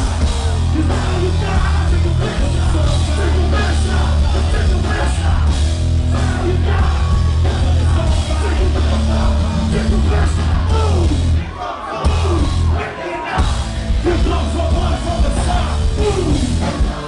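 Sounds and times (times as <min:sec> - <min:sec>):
distorted guitars and bass: 0:00.0 - 0:17.0
drums: 0:00.0 - 0:17.0
sung and shouted vocals: 0:00.0 - 0:17.0.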